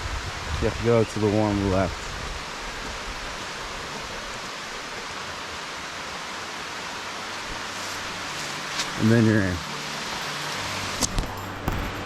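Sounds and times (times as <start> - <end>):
rushing waterfall and river: 0.0 - 12.0.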